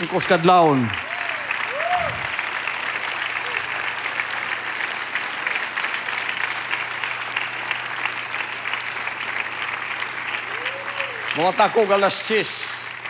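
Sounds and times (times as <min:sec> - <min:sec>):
congregation applauding: 0:00.0 - 0:13.0.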